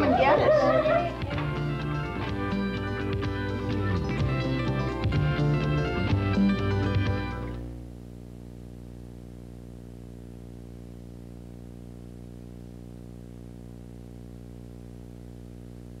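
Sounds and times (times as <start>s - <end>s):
low layered hum: 0.0s - 16.0s.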